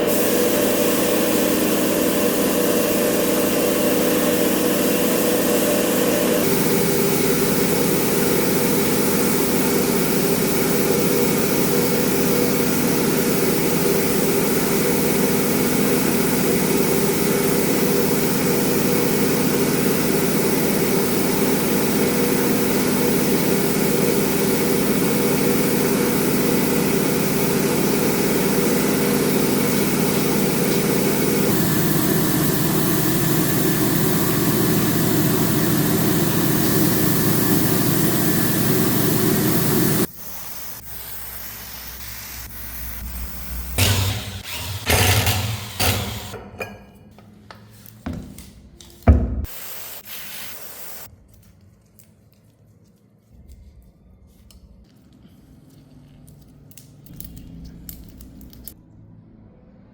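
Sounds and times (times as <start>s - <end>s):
mechanical running with pitched hum: 0.0s - 51.1s.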